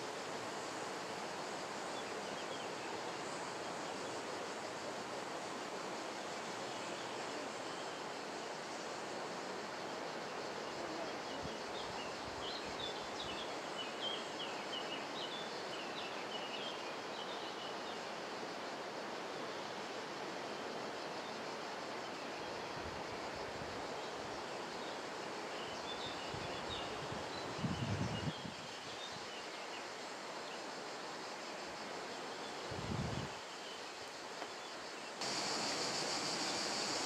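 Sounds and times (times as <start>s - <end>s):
outdoor background noise: 0.0s - 37.0s.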